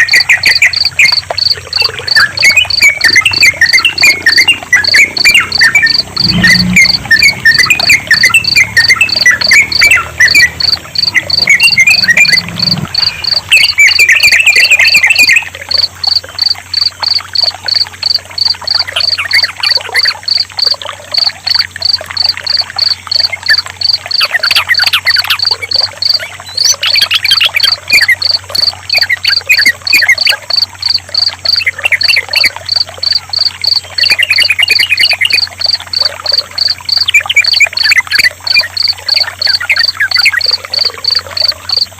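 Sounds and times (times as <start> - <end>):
bird chattering song: 0.0 - 41.9
crickets chirping: 0.0 - 41.9
trickling water: 0.0 - 41.9.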